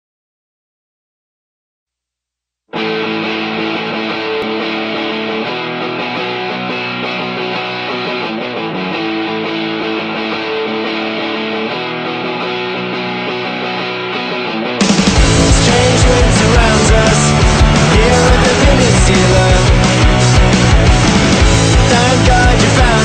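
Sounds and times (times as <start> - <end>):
guitar strumming chords: 2.7 - 23.0.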